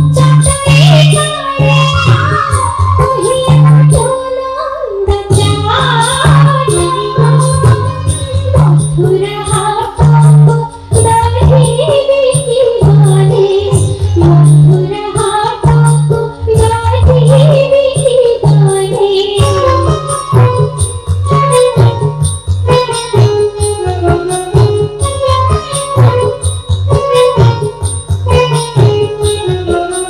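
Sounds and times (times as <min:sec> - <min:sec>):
rhythmic percussion: 0:00.0 - 0:30.0.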